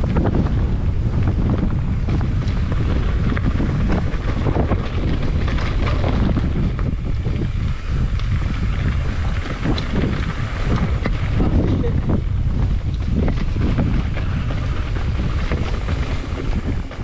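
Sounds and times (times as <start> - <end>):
bike rattling and knocking: 0.0 - 17.0
wind buffeting microphone: 0.0 - 17.0.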